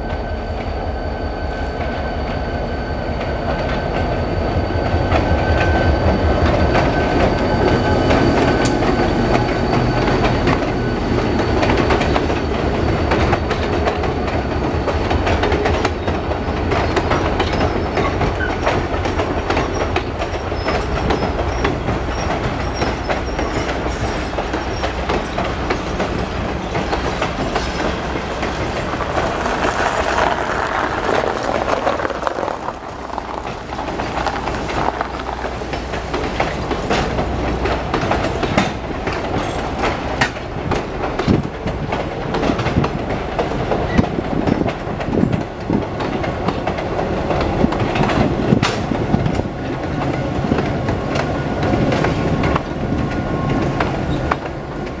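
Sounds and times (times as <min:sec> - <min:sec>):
train rumble: 0:00.0 - 0:55.0
train wheels clacking over joints: 0:03.1 - 0:55.0.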